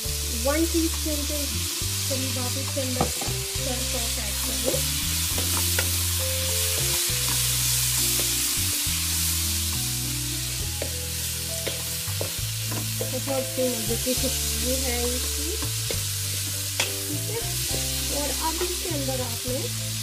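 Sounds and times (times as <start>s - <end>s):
low background music: 0.0s - 20.0s
vegetables sizzling in a wok: 0.0s - 20.0s.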